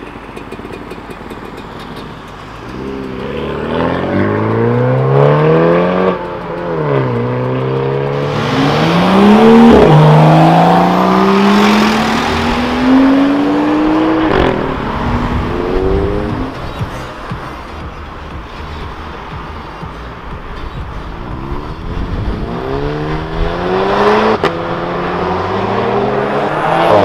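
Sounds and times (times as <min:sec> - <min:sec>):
sports cars accelerating hard: 0:02.6 - 0:19.8, 0:20.5 - 0:27.0.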